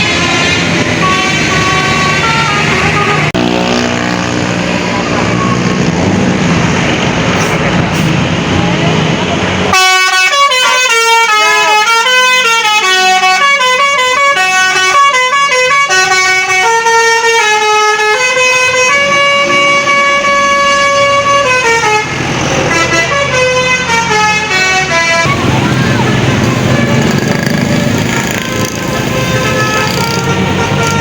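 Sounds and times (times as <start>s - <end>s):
multi-tone musical bus horn: 0.0s - 5.9s, 9.7s - 31.0s.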